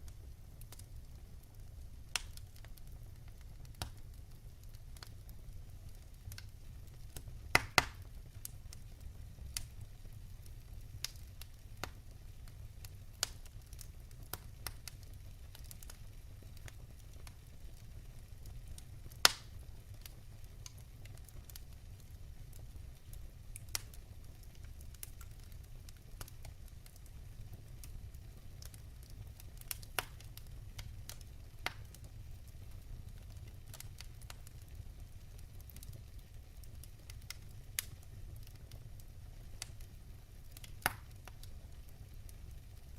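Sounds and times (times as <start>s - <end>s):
fire crackling and popping: 0.0s - 42.9s
low fire rumble: 0.0s - 42.9s.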